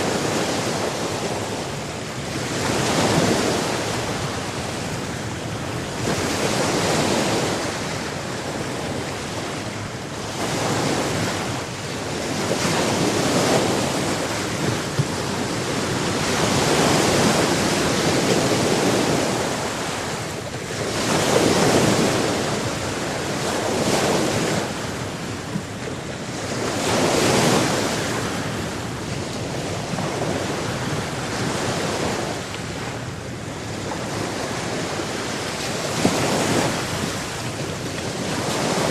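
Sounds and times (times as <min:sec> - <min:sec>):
waves breaking on shore: 0:00.0 - 0:38.9
wind on microphone: 0:00.0 - 0:38.9.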